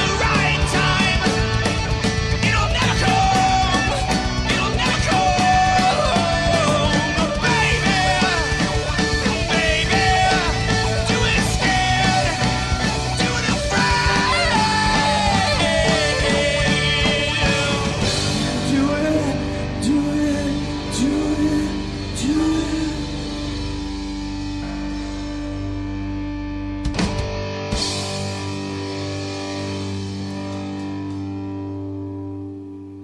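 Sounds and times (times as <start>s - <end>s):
live rock band: 0.0s - 33.0s.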